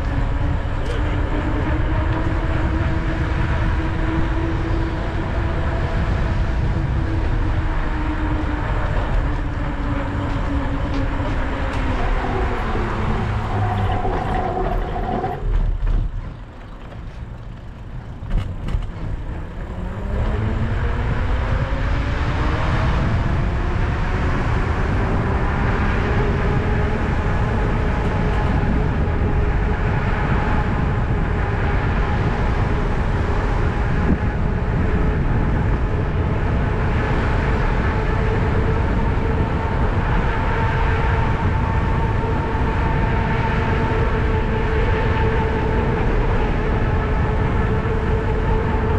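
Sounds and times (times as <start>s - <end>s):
wind rumble on microphone: 0.0s - 48.9s.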